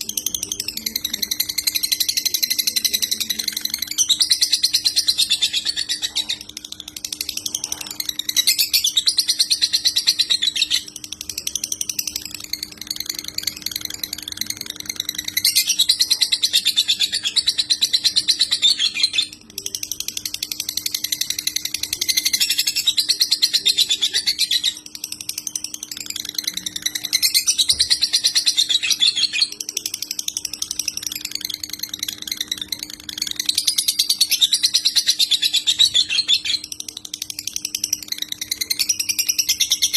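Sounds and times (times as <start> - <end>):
faint steady hum: 0.0 - 39.9
lovebird chattering song: 0.0 - 39.9.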